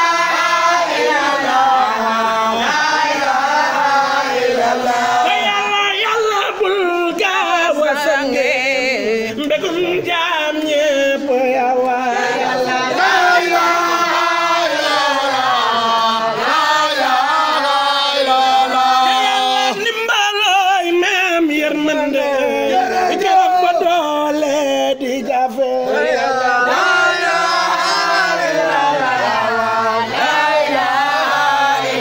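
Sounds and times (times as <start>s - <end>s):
men chanting in song: 0.0s - 32.0s.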